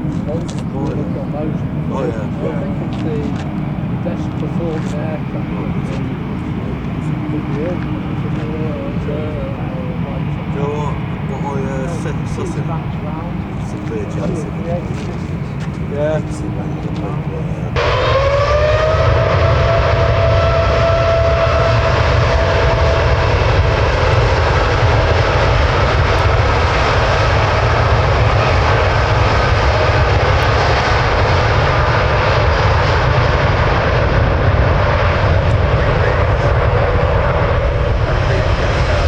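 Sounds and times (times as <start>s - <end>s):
jet engines rumbling and whining: 0.0s - 39.0s.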